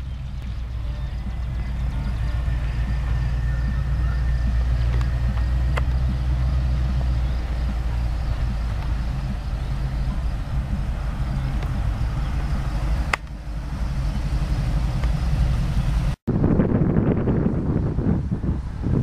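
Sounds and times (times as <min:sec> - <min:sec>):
van engine running: 0:00.0 - 0:19.0
wind buffeting microphone: 0:00.0 - 0:19.0.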